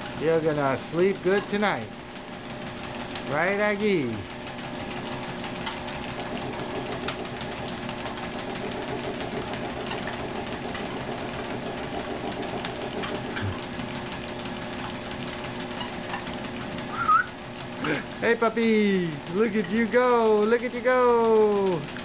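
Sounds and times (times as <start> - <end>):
treadmill belt patter: 0.0 - 22.0
treadmill motor hum: 0.0 - 22.0.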